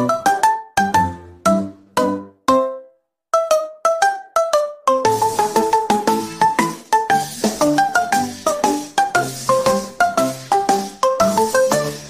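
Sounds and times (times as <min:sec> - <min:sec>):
bouncy tune of short notes: 0:00.0 - 0:12.0.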